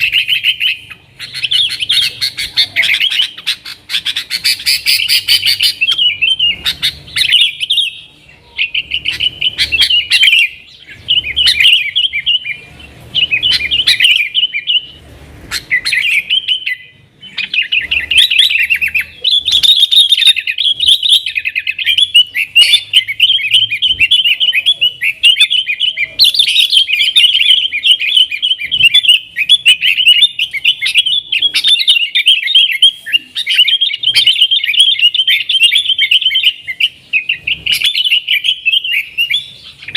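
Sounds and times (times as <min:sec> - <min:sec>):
bulbul singing chattering song: 0:00.0 - 0:39.9.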